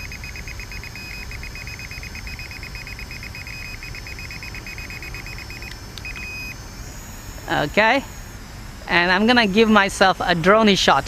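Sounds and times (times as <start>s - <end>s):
long beep: 0.0s - 10.7s
remote controller beeping rapidly: 0.0s - 11.0s.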